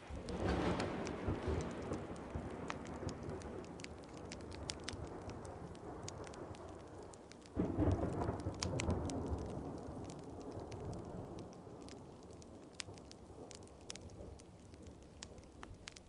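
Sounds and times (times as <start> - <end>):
low thunder roll: 0.0 - 15.8
steady rain: 0.0 - 16.0
wood fire crackling: 0.0 - 16.0.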